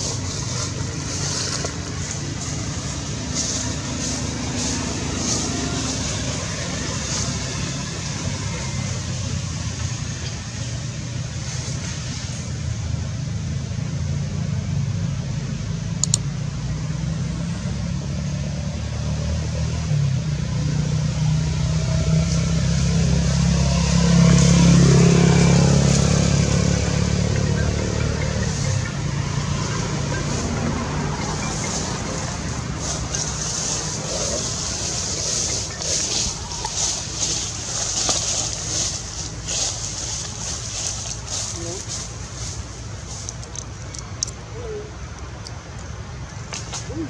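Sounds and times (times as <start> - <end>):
vehicle engine rumbling past: 0.0 - 47.0.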